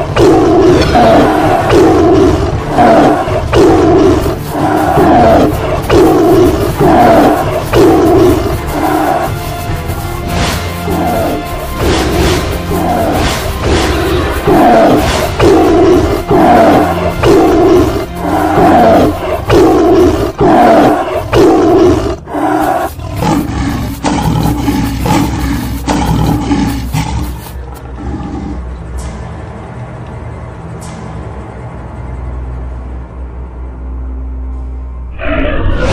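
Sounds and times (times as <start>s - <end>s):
lion roaring: 0.0s - 28.8s, 35.1s - 35.9s
background music: 0.0s - 35.9s.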